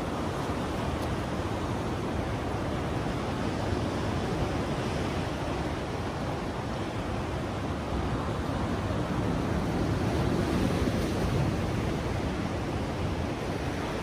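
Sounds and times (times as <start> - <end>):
ocean surf: 0.0 - 14.0
wind noise: 0.0 - 14.0.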